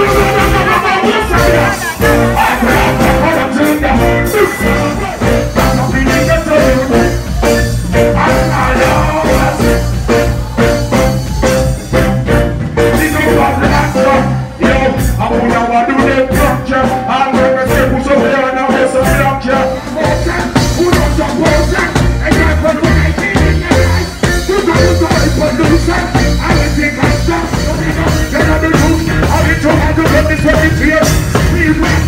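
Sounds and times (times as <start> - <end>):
man singing reggae: 0.0 - 32.0
reggae beat with heavy bass: 0.0 - 32.0.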